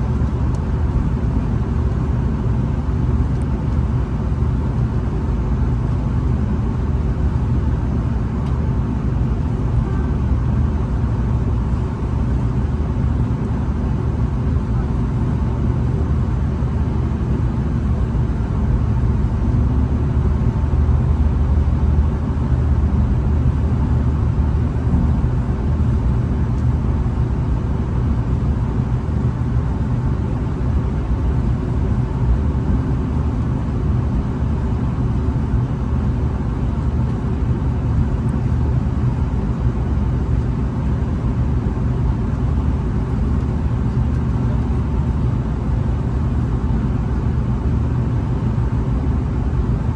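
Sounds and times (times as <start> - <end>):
railcar rumble and hum: 0.0 - 49.9.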